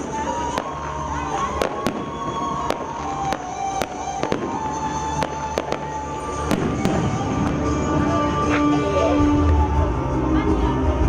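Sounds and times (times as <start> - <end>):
fireworks cracking: 0.0 - 9.7
background music: 0.0 - 11.0.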